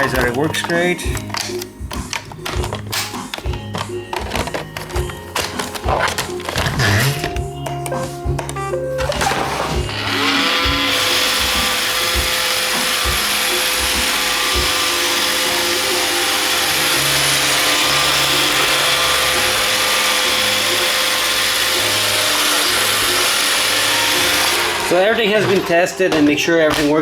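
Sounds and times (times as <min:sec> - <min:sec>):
robot vacuum whirring: 0:00.0 - 0:07.4, 0:09.0 - 0:26.4.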